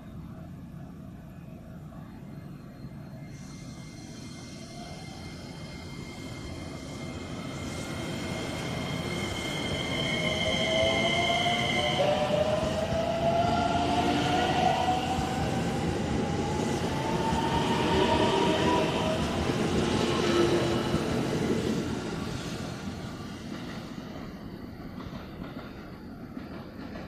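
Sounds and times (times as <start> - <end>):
train wheel running noise: 3.2 - 27.0.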